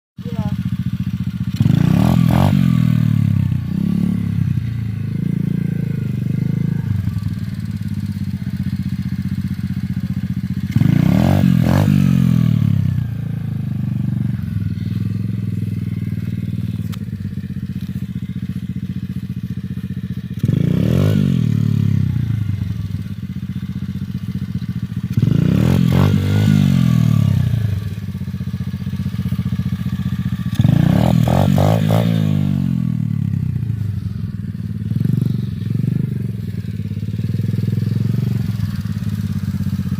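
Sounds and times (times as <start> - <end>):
dirt bike engine revving: 0.2 - 39.9.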